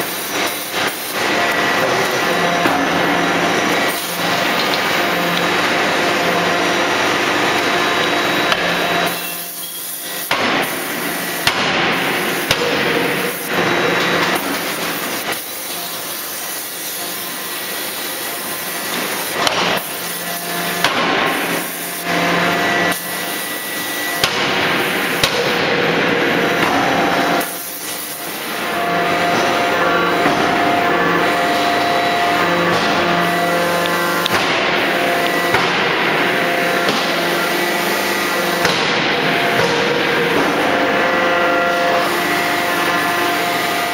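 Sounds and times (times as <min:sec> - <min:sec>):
machine hum and clatter: 0:00.0 - 0:43.9.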